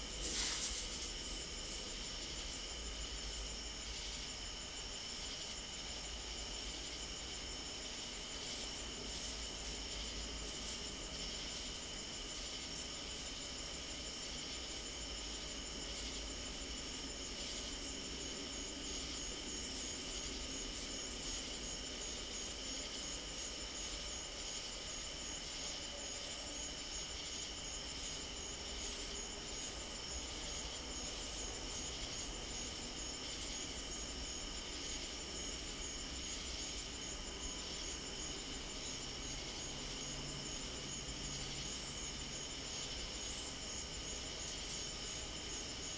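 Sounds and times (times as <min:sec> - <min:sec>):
crickets trilling: 0:00.0 - 0:45.9
faint hiss: 0:00.0 - 0:45.9.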